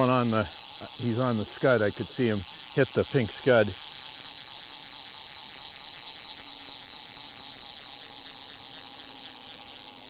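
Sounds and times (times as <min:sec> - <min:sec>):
faint quick ticking: 0:00.0 - 0:10.0.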